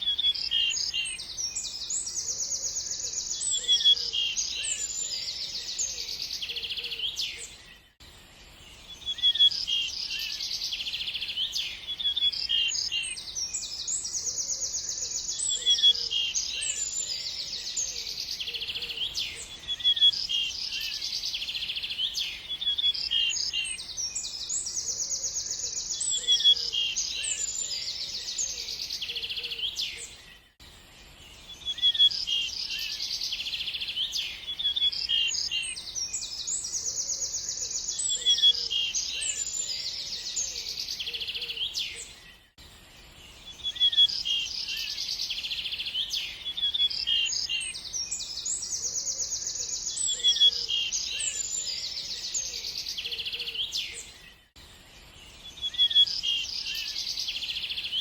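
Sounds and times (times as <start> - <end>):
faint lower bird calls: 0.0 - 8.0, 8.6 - 30.6, 31.3 - 58.0
birds chirping and trilling: 0.0 - 58.0.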